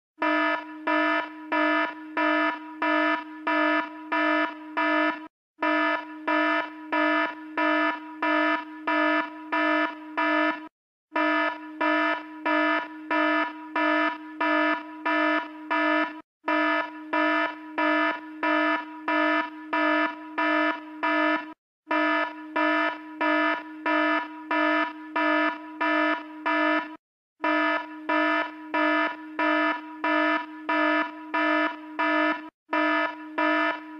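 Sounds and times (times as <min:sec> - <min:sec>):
pulsing buzzy alarm tone: 0:00.2 - 0:33.9.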